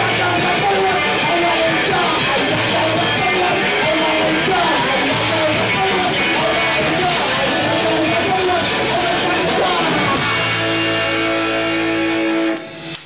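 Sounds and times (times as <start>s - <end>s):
person singing: 0.0s - 10.7s
electric guitar: 0.0s - 13.0s
punk band playing loud: 0.0s - 13.0s.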